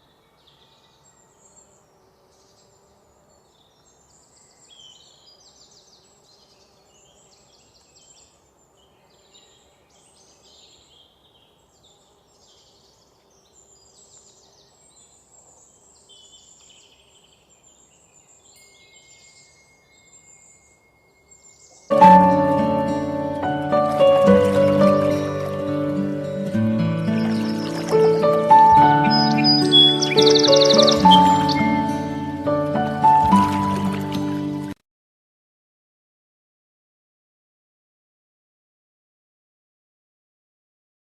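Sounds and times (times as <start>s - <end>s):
small birds chirping: 0.0s - 34.7s.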